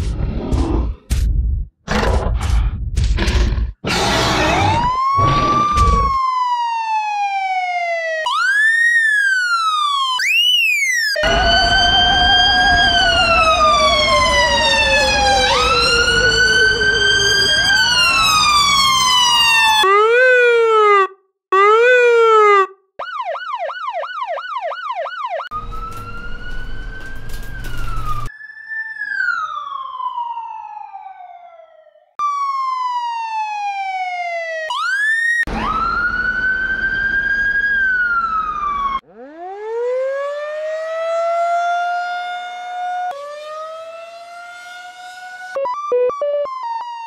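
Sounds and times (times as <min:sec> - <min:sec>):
ambulance siren: 0:04.4 - 0:47.0.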